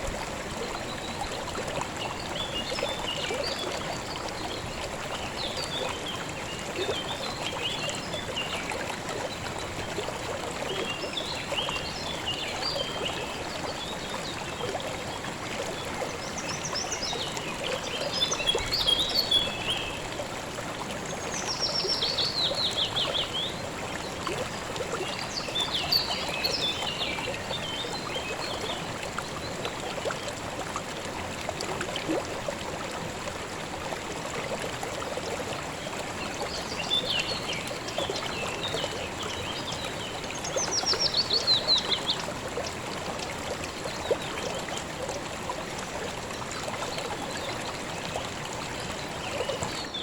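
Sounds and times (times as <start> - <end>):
river over stones: 0.0 - 50.0.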